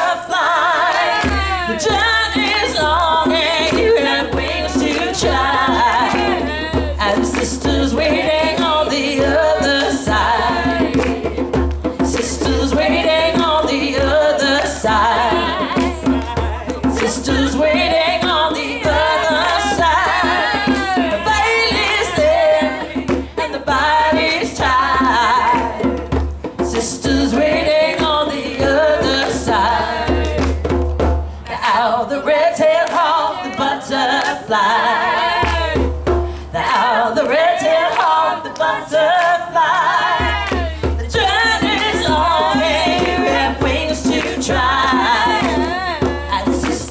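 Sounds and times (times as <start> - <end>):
women singing folk song: 0.0 - 30.8, 31.4 - 46.9
djembe drums: 0.9 - 31.6, 35.2 - 37.2, 39.9 - 46.9.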